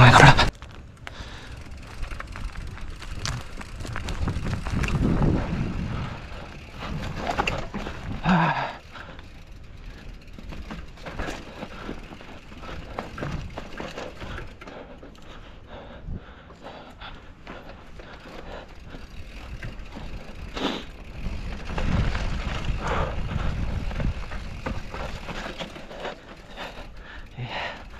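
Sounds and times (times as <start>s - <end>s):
bike rattling and knocking: 0.0s - 27.9s
bike tyres rumbling on dirt trail: 0.0s - 27.9s.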